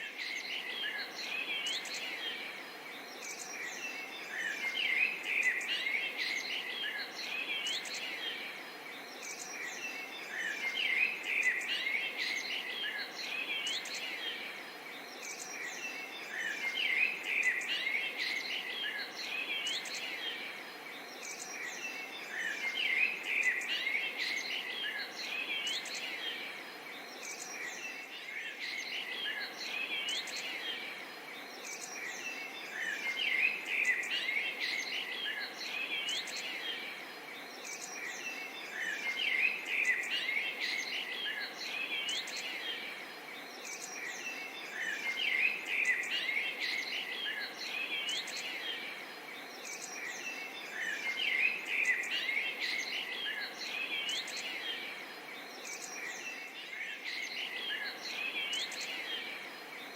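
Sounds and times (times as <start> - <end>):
background hiss: 0.0 - 59.9
small birds chirping: 0.0 - 59.9.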